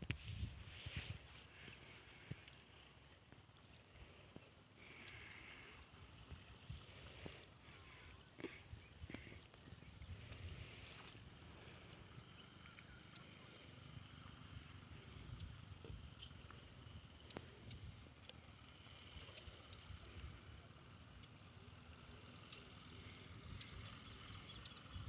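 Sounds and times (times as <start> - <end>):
faint low rumble: 0.0 - 25.0.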